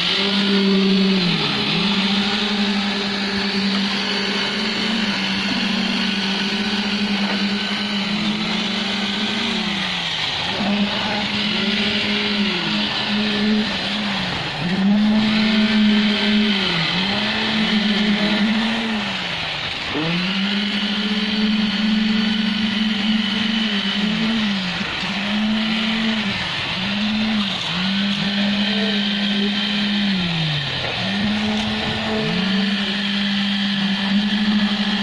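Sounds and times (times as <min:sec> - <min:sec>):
concrete vibrator whining: 0:00.0 - 0:35.0.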